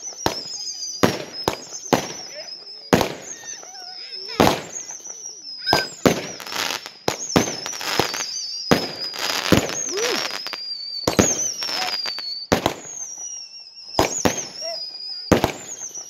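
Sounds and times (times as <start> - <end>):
fireworks bangs and crackles: 0.0 - 16.0
wavering high whistle: 0.0 - 16.0.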